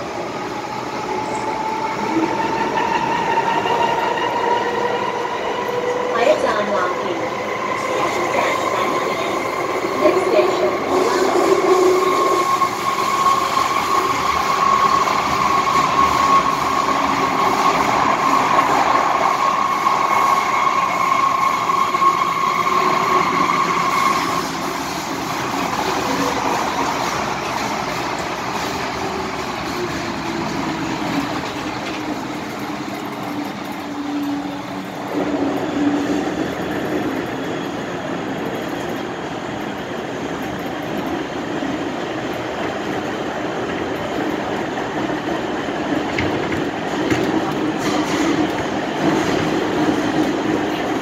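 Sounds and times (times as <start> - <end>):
train rumble in tunnel: 0.0 - 51.0.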